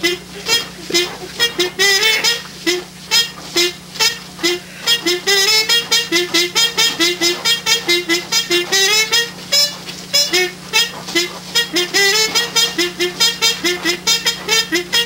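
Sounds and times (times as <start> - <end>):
fast melody of short notes: 0.0 - 15.0
steady low hum: 0.0 - 15.0.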